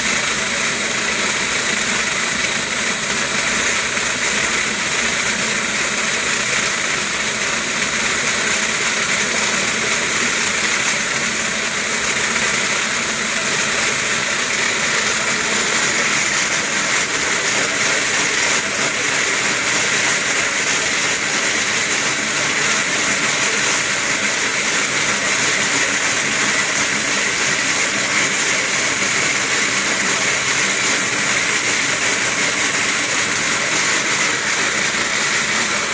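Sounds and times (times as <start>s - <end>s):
slat mill rattling hiss: 0.0s - 35.9s.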